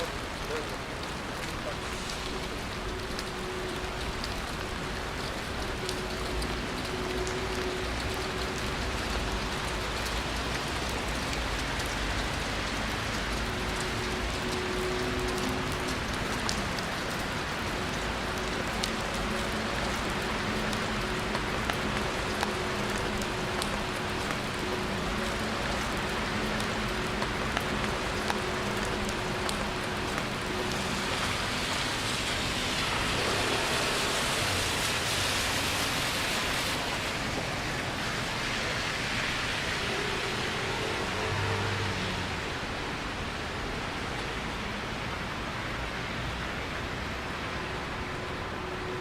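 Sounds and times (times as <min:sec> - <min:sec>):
rain: 0:00.0 - 0:49.0.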